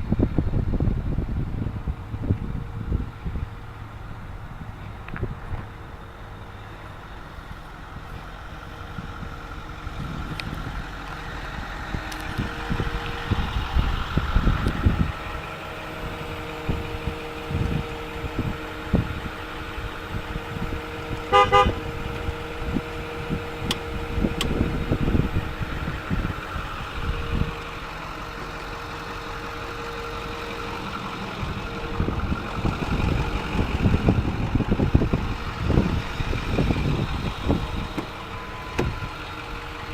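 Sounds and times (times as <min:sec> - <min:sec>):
low engine rumbling: 0:00.0 - 0:39.9
truck whine: 0:00.0 - 0:39.9.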